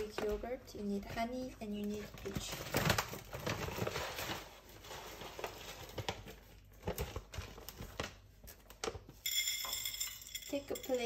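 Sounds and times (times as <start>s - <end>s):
packaging rustling and crinkling: 0.0s - 9.0s.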